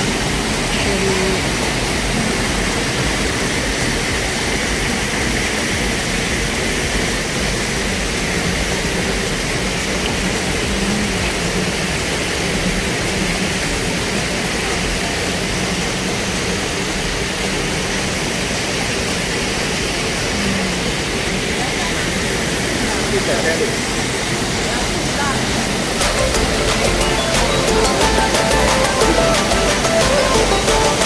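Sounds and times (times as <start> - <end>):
waterfall and stream rushing: 0.0 - 31.0.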